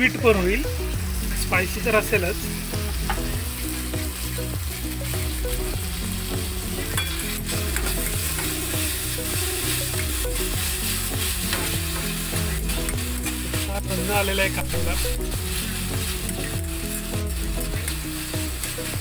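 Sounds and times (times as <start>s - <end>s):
onion sizzling in oil: 0.0s - 19.0s.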